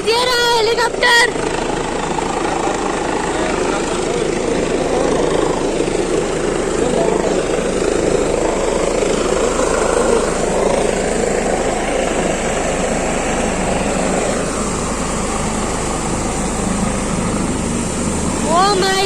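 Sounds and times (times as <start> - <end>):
helicopter rotors and engine: 0.0 - 19.0.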